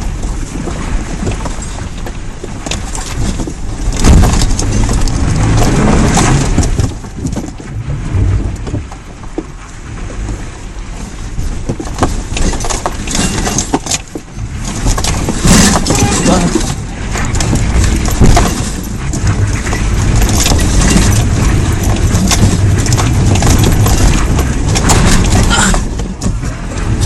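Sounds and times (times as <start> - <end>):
body and suspension rattling: 0.0 - 27.0
engine working under load: 0.0 - 27.0.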